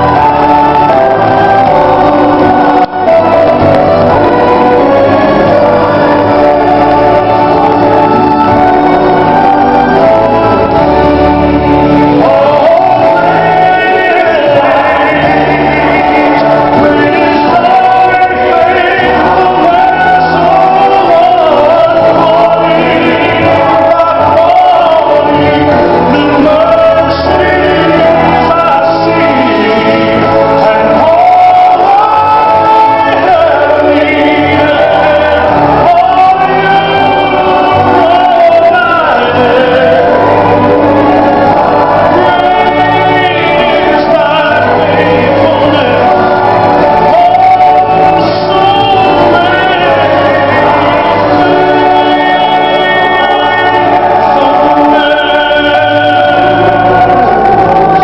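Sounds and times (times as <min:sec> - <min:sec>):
instrumental accompaniment: 0:00.0 - 0:58.0
man singing gospel: 0:00.0 - 0:58.0.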